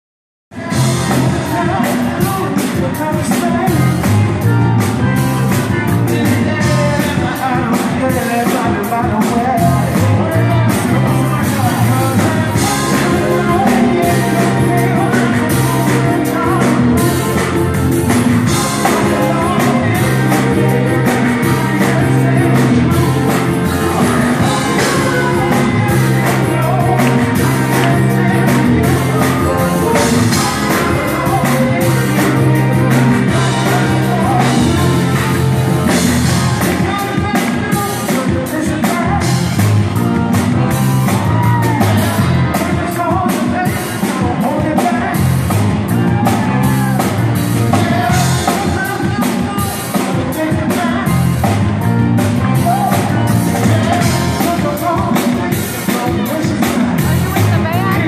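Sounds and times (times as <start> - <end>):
drum kit beat: 0.5 - 58.0
electric guitar: 0.5 - 58.0
man singing: 0.5 - 58.0.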